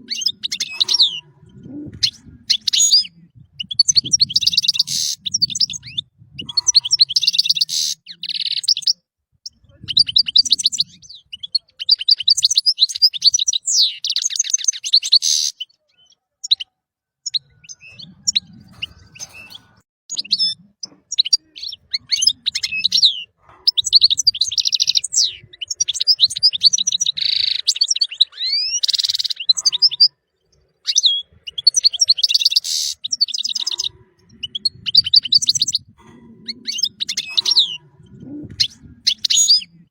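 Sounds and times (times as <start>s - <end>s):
finch twittering song: 1.9s - 39.9s.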